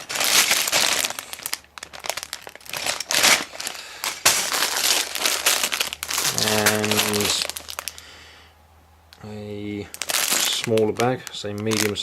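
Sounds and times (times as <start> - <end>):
plastic bags crinkling: 0.0 - 8.2, 9.2 - 12.0.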